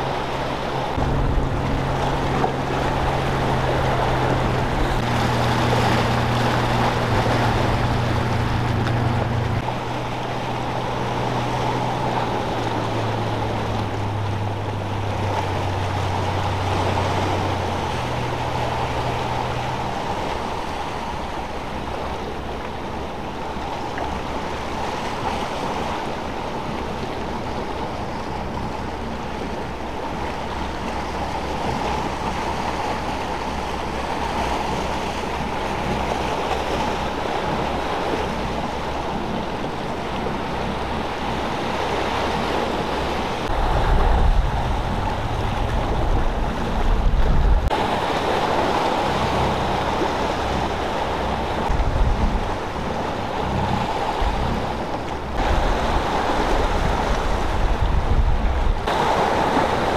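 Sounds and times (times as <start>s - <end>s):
wind and water noise: 0.0s - 59.9s
wind buffeting microphone: 0.0s - 59.9s.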